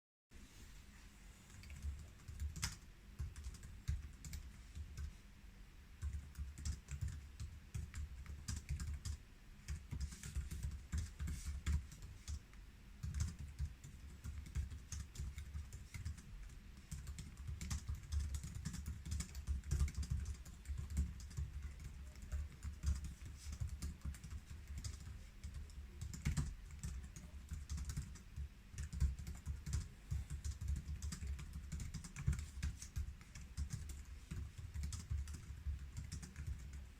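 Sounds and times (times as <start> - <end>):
fast typing on laptop keyboard: 1.5 - 5.1, 6.0 - 36.9.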